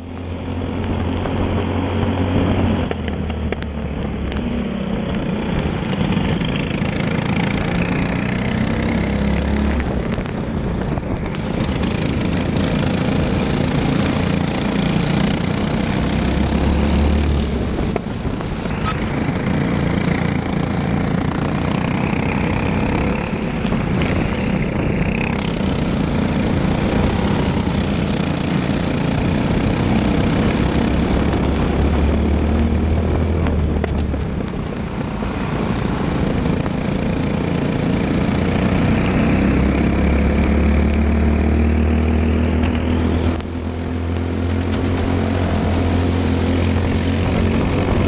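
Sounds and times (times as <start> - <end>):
kart engine racing: 0.0 - 48.0.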